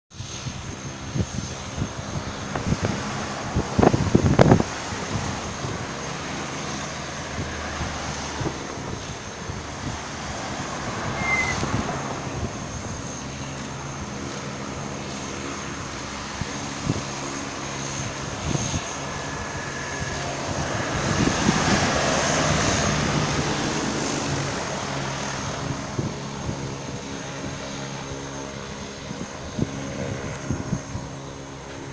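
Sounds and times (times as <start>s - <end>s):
propeller plane droning: 0.1s - 31.9s.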